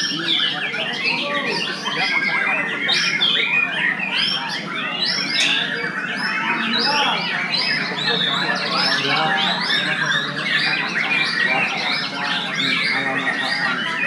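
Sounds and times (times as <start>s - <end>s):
songbirds whistling: 0.0s - 14.0s.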